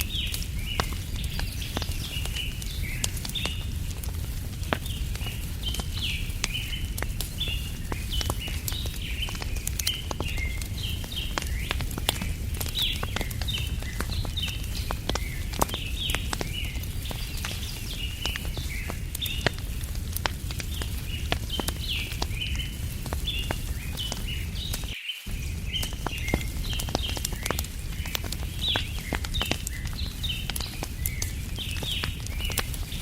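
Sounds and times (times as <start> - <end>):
campfire crackling and popping: 0.0 - 33.0
small birds chirping: 0.0 - 33.0.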